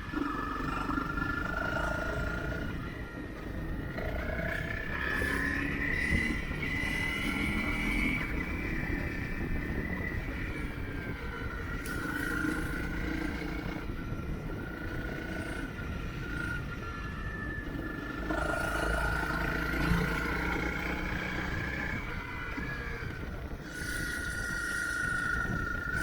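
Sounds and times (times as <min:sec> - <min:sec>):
low wind: 0:00.0 - 0:26.0
motorcycle engine running: 0:00.0 - 0:26.0
road rumble: 0:00.0 - 0:26.0.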